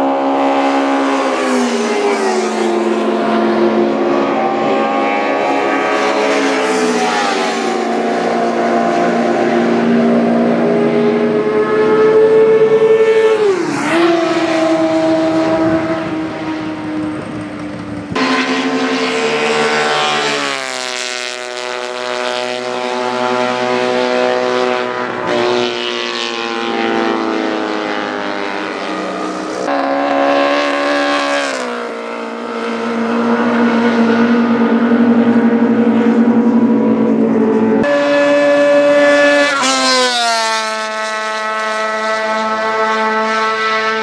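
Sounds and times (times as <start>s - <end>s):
racing engines screaming past: 0.0s - 44.0s.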